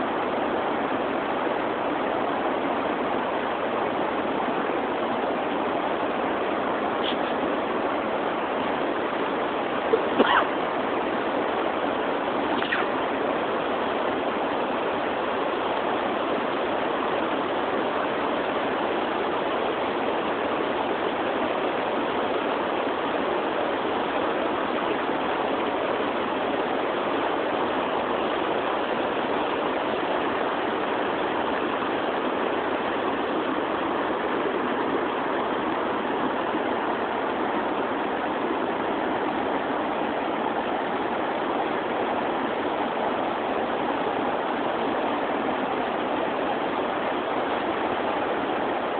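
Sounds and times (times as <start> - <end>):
fast-flowing river water: 0.0 - 48.9.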